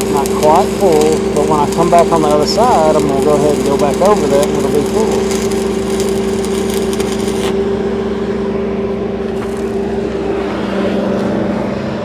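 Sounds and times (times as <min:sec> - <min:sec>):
welding arc crackling: 0:00.0 - 0:10.6
engine drone: 0:00.0 - 0:12.0.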